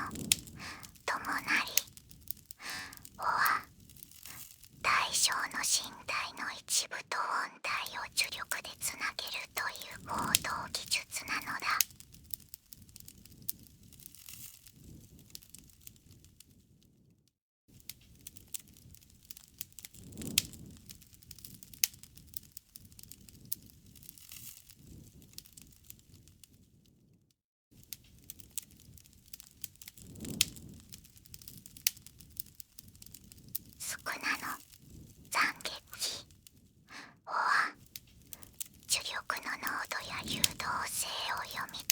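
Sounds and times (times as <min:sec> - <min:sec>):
rustle of flames: 0:00.0 - 0:06.4, 0:08.2 - 0:36.8, 0:37.7 - 0:41.9
wood fire crackling: 0:00.0 - 0:06.7, 0:07.4 - 0:16.4, 0:17.8 - 0:26.5, 0:27.8 - 0:41.9
sharp snaps and pops: 0:00.0 - 0:16.0, 0:17.8 - 0:26.2, 0:27.8 - 0:41.9.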